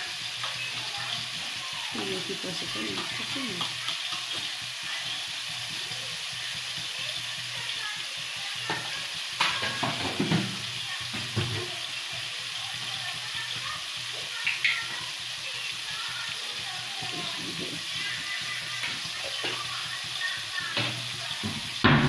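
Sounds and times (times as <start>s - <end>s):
greens sizzling in a pan: 0.0s - 22.0s.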